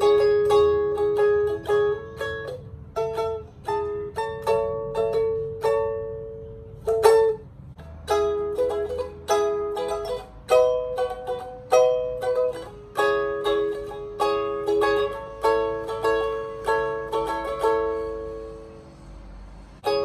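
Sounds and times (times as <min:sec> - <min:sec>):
ukulele strummed chords: 0:00.0 - 0:18.8.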